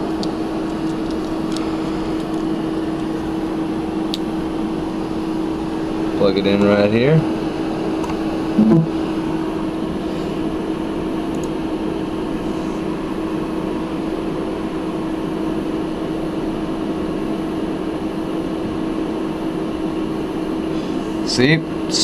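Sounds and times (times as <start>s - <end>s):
steady fan hum: 0.0s - 22.0s.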